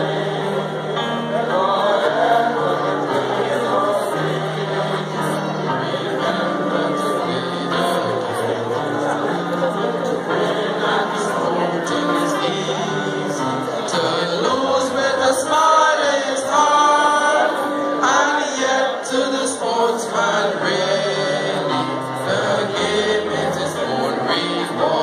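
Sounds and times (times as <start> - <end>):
group singing in chorus: 0.0 - 25.0.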